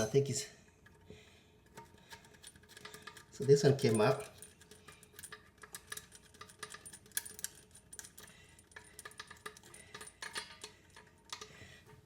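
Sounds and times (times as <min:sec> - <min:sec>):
metallic clicks and clinks: 0:01.6 - 0:12.0.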